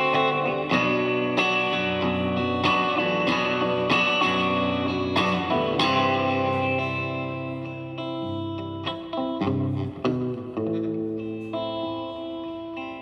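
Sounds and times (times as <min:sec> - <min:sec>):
electric guitar playing chords: 0:00.0 - 0:13.0.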